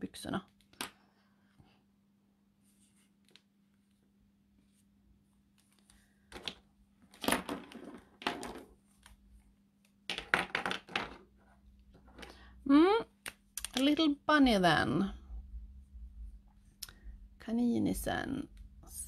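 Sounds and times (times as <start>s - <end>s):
faint steady hum: 0.4s - 19.0s.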